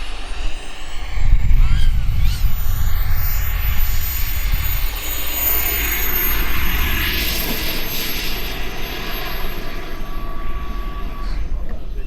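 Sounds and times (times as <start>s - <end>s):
high turbine whine: 0.0s - 12.0s
model jet rushing past: 0.0s - 12.0s.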